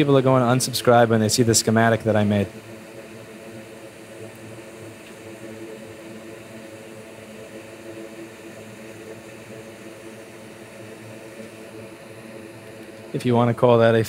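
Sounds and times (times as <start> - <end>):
fan whirring: 0.0 - 14.0
low droning hum: 0.0 - 14.0.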